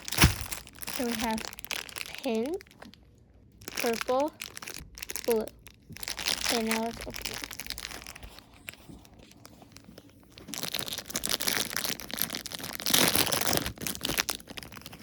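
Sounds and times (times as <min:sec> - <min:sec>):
plastic packaging crinkling and tearing: 0:00.0 - 0:03.0, 0:03.6 - 0:15.0.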